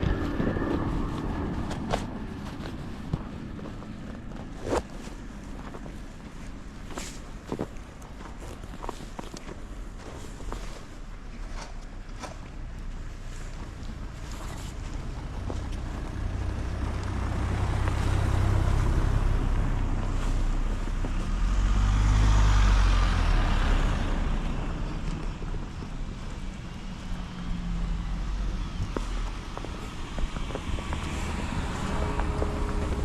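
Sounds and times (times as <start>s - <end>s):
vehicles driving past on snow: 0.0s - 33.0s.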